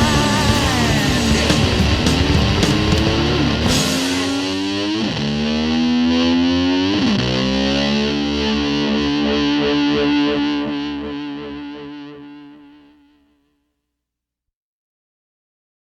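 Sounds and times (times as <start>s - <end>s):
distorted electric slide guitar: 0.0s - 13.3s.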